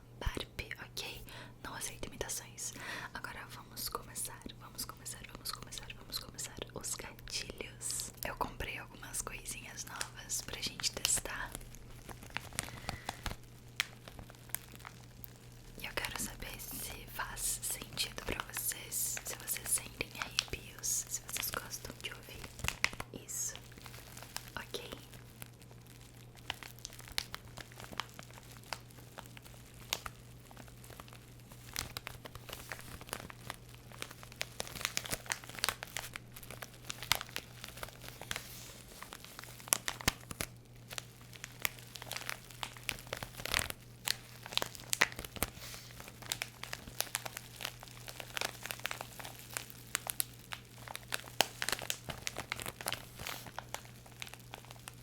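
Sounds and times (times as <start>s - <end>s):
faint low hum: 0.0s - 55.0s
plastic packaging crinkling: 1.9s - 55.0s.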